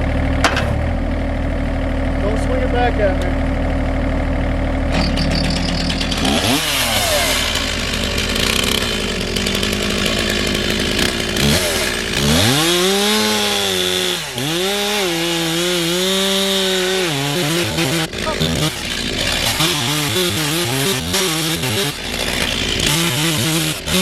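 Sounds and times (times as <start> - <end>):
chainsaw revving and cutting wood: 0.0 - 24.0.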